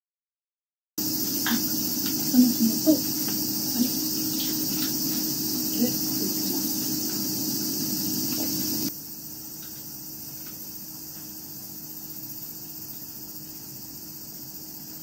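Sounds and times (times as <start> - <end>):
insects trilling: 1.0 - 15.0.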